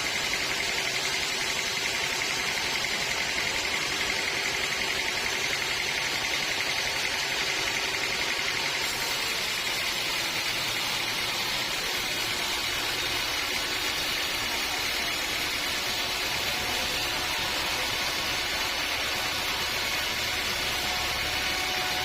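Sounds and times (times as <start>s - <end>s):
sawmill machinery running: 0.0s - 22.0s.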